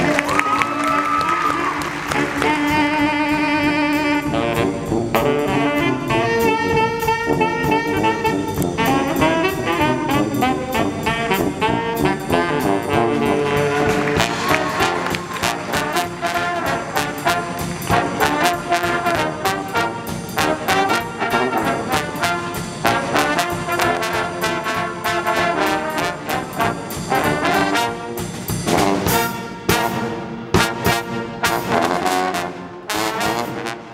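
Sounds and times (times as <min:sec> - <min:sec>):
brass band playing: 0:00.0 - 0:33.9
drum kit: 0:00.0 - 0:33.9.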